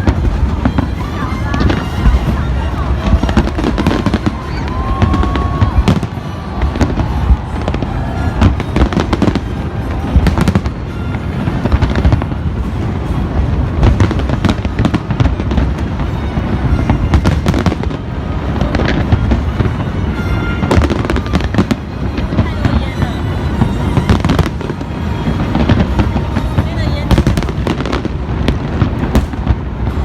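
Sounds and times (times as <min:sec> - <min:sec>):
fireworks bangs and crackles: 0:00.0 - 0:30.0
music playing: 0:00.0 - 0:30.0
rumble of fireworks booms: 0:00.0 - 0:30.0.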